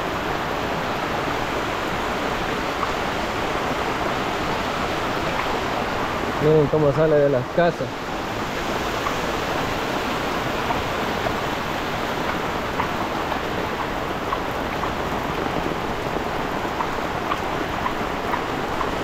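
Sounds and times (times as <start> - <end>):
heavy rain pouring: 0.0 - 19.0
runoff water rushing: 0.0 - 19.0.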